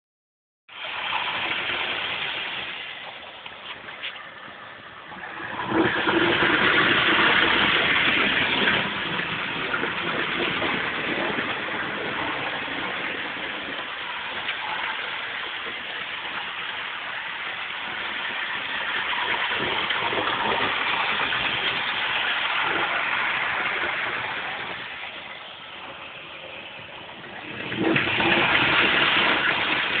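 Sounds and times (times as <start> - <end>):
model train rushing on rails: 4.4 - 30.0.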